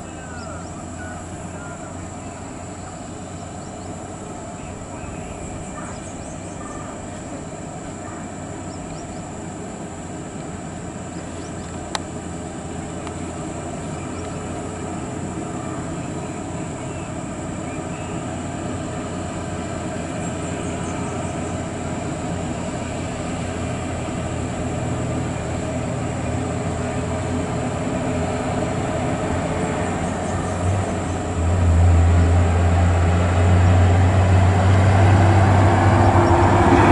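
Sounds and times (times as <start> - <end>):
diesel truck engine running: 0.0 - 36.9
road noise on dirt road: 0.0 - 36.9.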